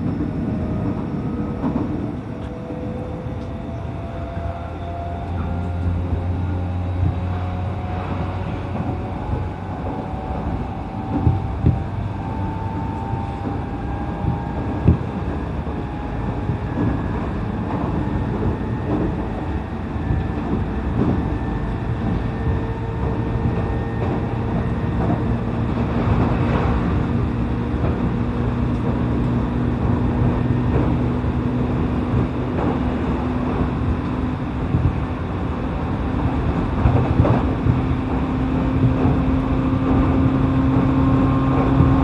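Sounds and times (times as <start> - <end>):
electric train rumbling: 0.0 - 42.0.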